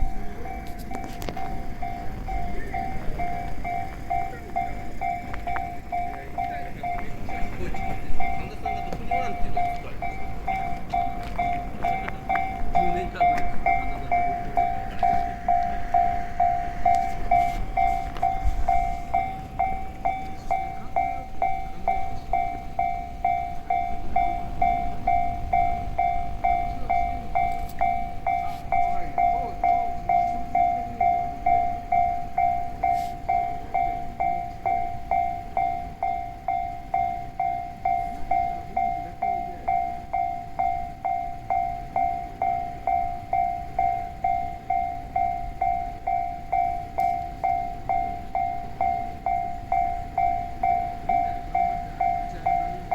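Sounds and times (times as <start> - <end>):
level crossing bell ringing: 0.0 - 52.9
train rumbling past: 0.0 - 52.9.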